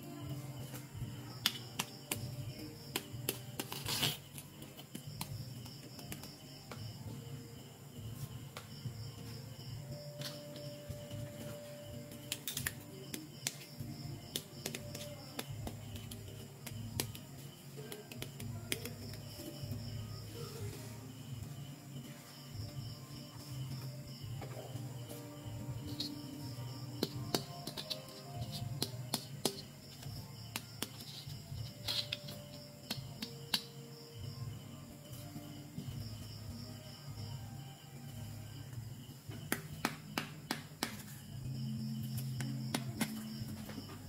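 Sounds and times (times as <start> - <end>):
insects chirping: 0.0 - 44.0.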